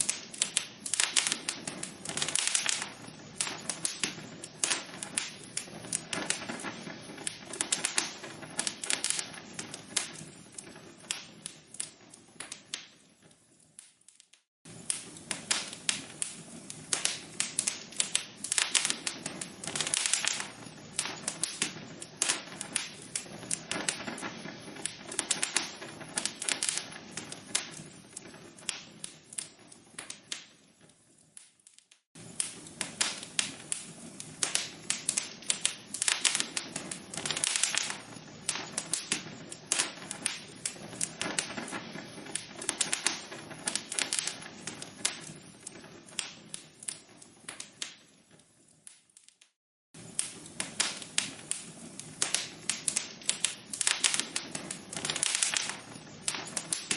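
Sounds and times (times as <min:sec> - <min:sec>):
logs crackling in fireplace: 0:00.0 - 0:56.9.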